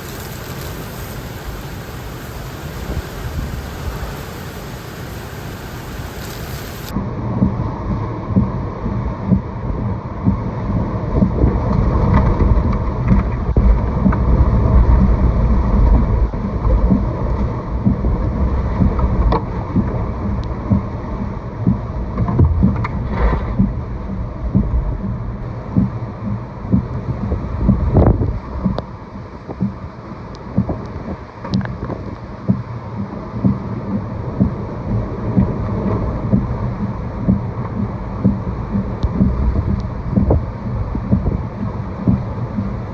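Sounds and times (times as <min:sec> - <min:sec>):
wind buffeting microphone: 0:00.0 - 0:30.0, 0:30.6 - 0:42.9.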